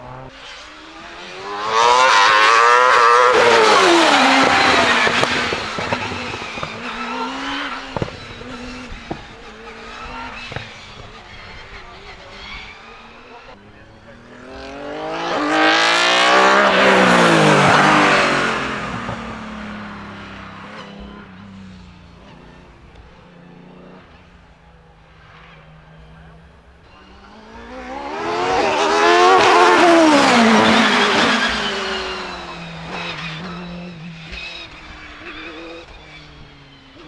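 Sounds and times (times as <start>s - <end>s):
racing cars passing at full throttle: 0.0s - 37.0s.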